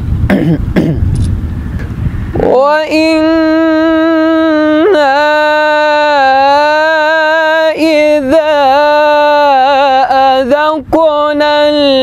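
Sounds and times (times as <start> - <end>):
man reciting melodically: 2.3 - 12.0.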